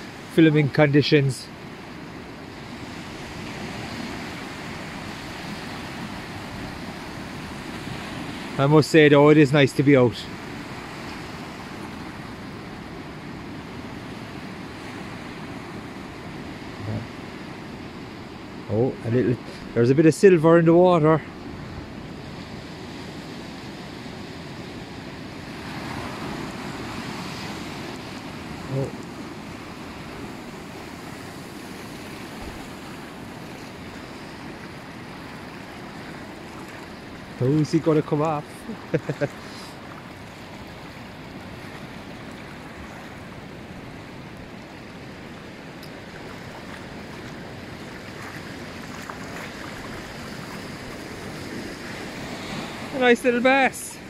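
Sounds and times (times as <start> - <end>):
small waves breaking on sand: 0.0 - 54.0
surf washing up a beach: 0.0 - 54.0.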